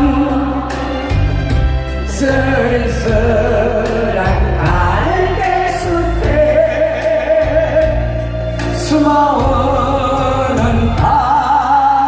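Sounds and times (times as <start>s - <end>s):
instrumental backing track: 0.0s - 12.0s
voices singing a slow ballad: 0.0s - 12.0s.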